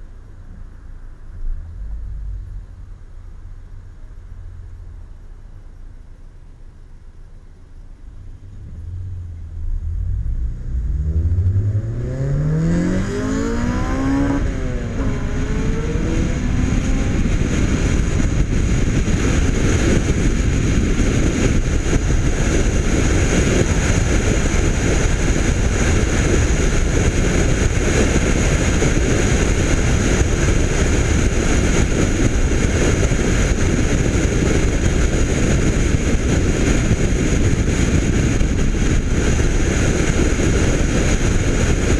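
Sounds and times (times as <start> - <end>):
car engine accelerating: 0.0 - 41.9
wind and road noise: 0.0 - 41.9.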